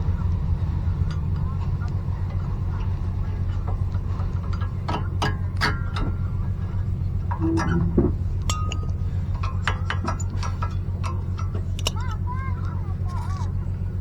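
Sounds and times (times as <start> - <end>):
steady low hum: 0.0 - 14.0
light metallic clinks: 0.9 - 13.6.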